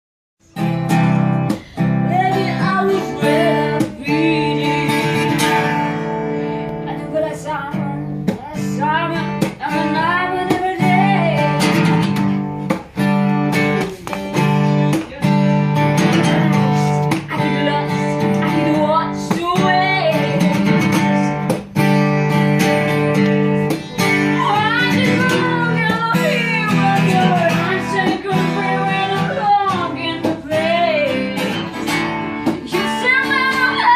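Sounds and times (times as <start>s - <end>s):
acoustic guitar strummed and plucked: 0.4s - 33.9s
person singing: 1.5s - 12.1s, 13.5s - 33.9s.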